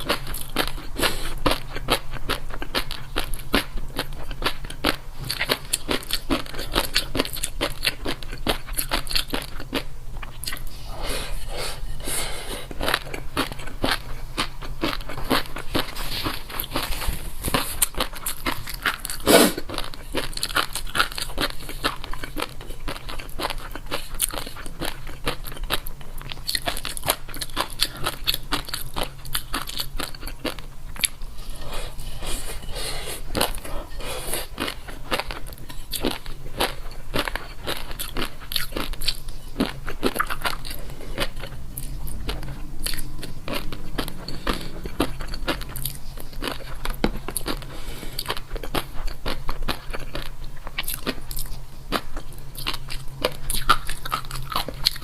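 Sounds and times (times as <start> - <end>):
crunching and chewing crisp food: 0.0 - 55.0.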